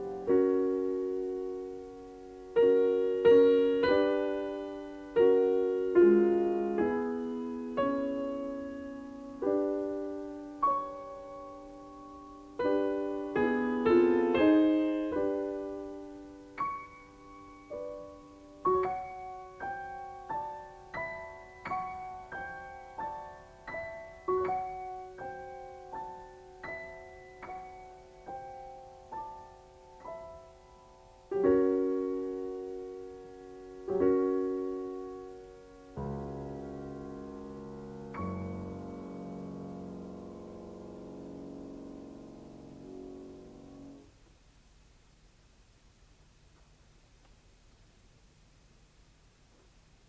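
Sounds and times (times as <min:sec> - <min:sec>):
solo classical piano: 0:00.0 - 0:44.4.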